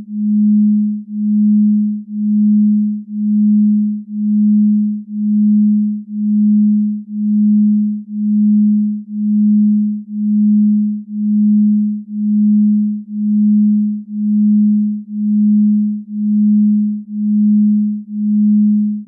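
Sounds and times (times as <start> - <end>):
pulsing low electronic tone: 0.0 - 19.0.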